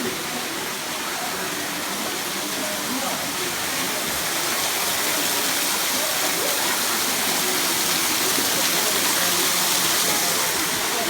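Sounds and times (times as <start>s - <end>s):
faint voices: 0.0s - 11.0s.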